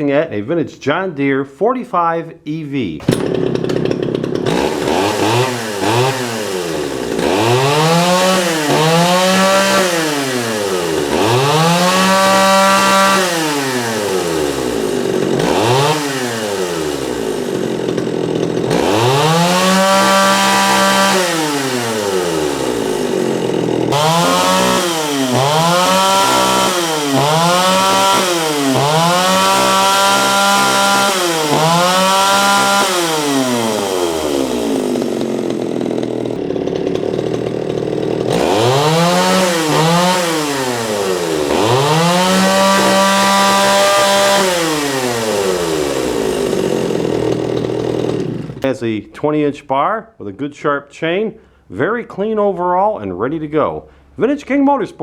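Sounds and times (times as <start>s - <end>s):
chainsaw revving: 3.0s - 48.8s.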